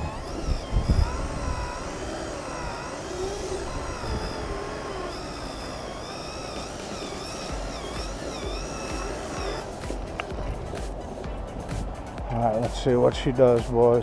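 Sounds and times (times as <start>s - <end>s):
electric motor whining: 0.0s - 13.9s.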